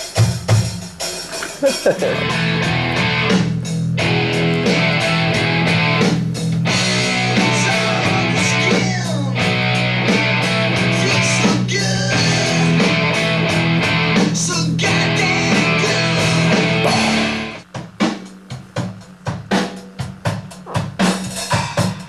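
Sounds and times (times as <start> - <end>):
drum kit hits: 0.0 - 22.0
hard rock music: 0.3 - 22.0.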